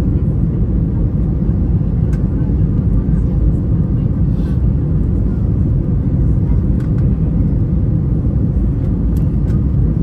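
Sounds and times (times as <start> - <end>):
airplane engines rumbling in cabin: 0.0 - 10.0.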